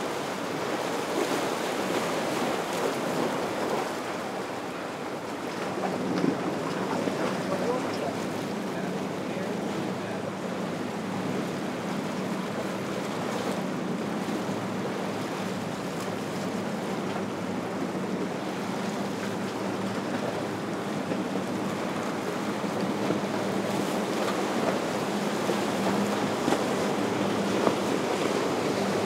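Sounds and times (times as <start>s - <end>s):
faint boat engine drone: 0.0s - 29.0s
ocean waves and surf: 0.0s - 29.0s.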